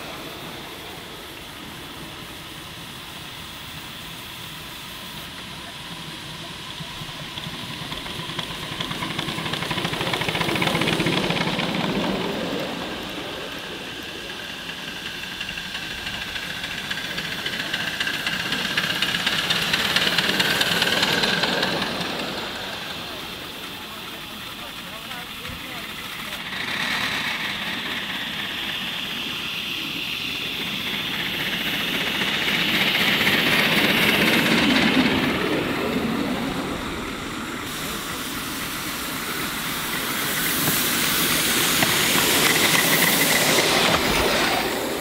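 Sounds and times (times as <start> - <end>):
miniature steam locomotives passing: 0.0 - 45.0.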